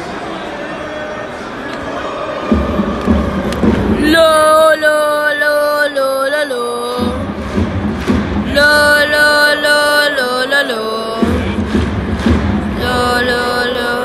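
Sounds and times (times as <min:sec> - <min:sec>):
crowd noise: 0:00.0 - 0:14.0
football supporters singing a chant: 0:00.6 - 0:14.0.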